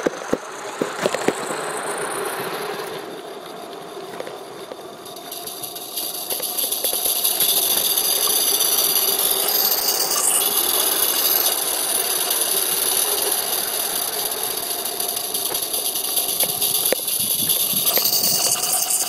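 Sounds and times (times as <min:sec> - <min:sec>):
steam hissing: 0:00.0 - 0:19.0
wheels rattling on rails: 0:00.0 - 0:19.0.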